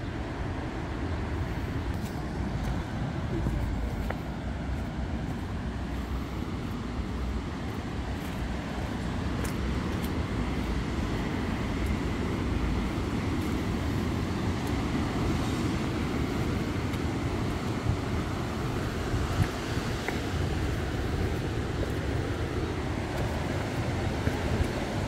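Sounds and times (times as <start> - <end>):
surf washing: 0.0 - 25.0
wind across microphone: 0.8 - 25.0.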